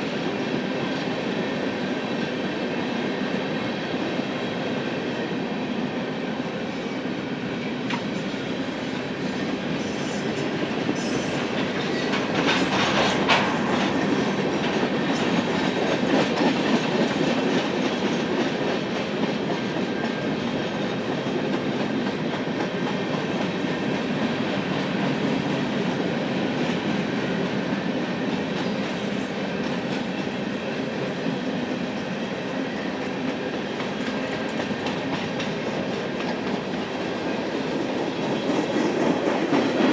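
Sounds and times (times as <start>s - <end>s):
freight train wheels clacking: 6.7s - 39.9s.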